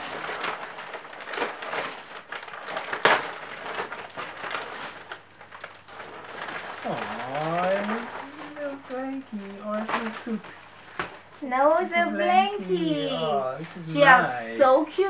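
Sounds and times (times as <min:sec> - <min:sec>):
wrapping paper rustling: 0:00.0 - 0:15.0.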